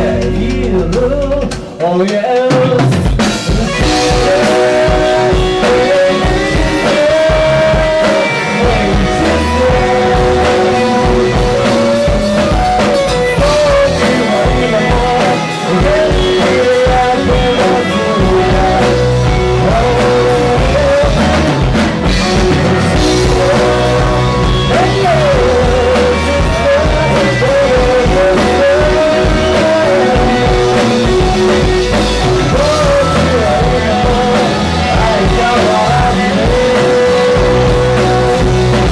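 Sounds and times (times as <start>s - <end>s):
bass guitar: 0.0s - 38.9s
drums: 0.0s - 38.9s
electric guitar: 0.0s - 38.9s
pitch-bending melody line: 3.5s - 38.9s.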